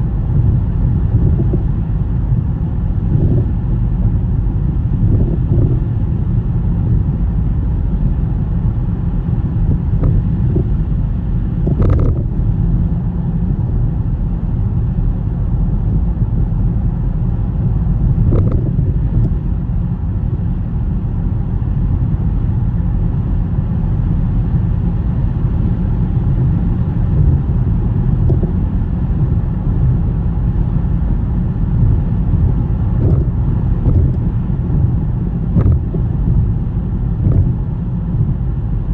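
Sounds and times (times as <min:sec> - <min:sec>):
car road and tyre noise: 0:00.0 - 0:38.9.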